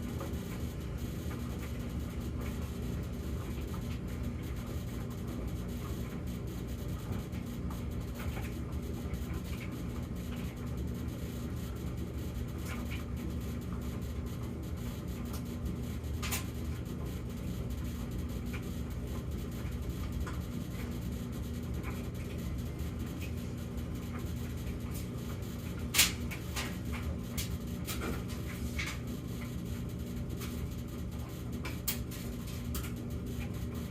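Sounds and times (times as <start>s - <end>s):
dryer drum and motor running: 0.0s - 33.9s.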